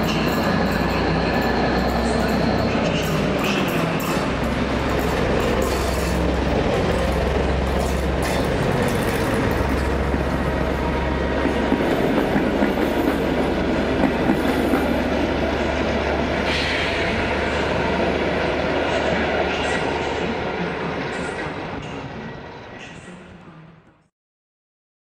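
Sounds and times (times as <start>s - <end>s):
wheels clacking over rail joints: 0.0s - 20.2s
railcar engine drone: 0.0s - 24.1s.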